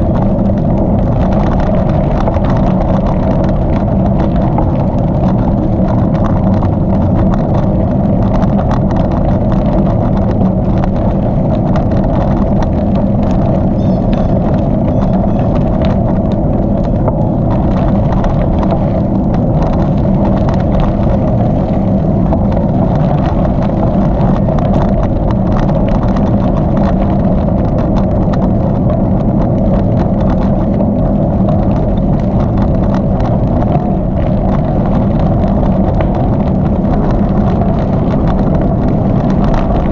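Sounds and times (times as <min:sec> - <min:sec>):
tyres rolling over gravel: 0:00.0 - 0:39.9
wind on microphone: 0:00.0 - 0:39.9.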